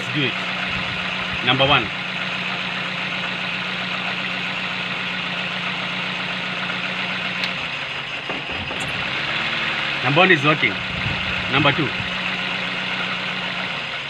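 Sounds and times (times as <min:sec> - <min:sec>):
car engine idling with misfire: 0:00.0 - 0:14.0.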